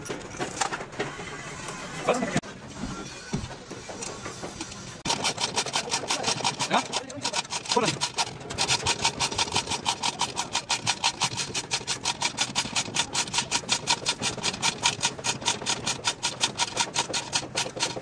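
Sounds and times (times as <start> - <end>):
tool scraping metal: 0.0 - 18.0.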